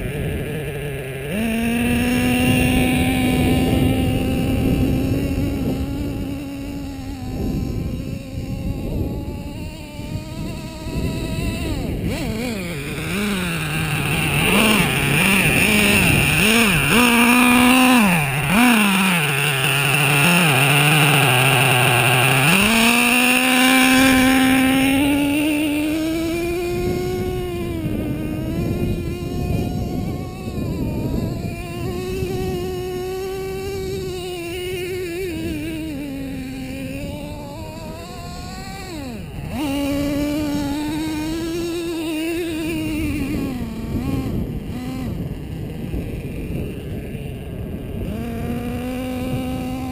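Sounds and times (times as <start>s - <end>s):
small nitro engine revving: 0.0s - 49.9s.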